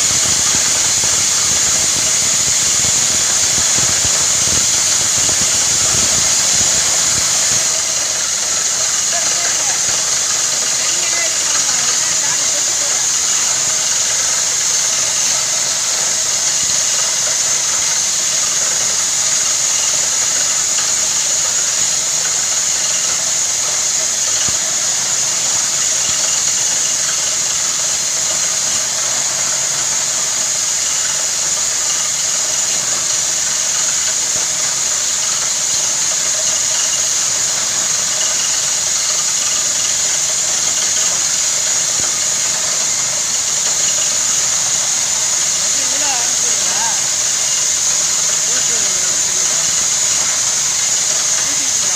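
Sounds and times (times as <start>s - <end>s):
drilling rig with air compressor: 0.0s - 51.9s.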